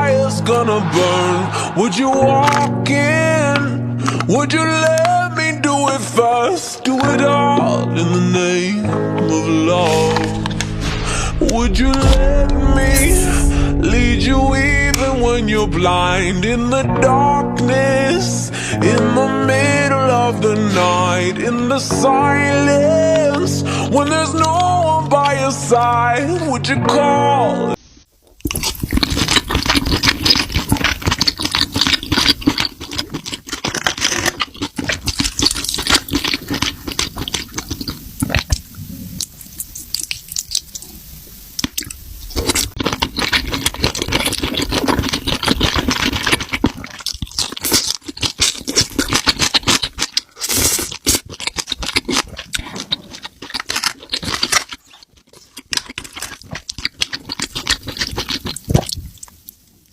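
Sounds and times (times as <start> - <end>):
person chewing and crunching food: 0.6 - 21.7, 28.1 - 59.9.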